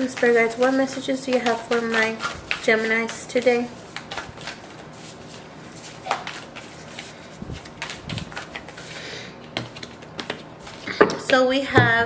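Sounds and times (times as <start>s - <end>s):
playing cards being shuffled: 0.1s - 10.9s.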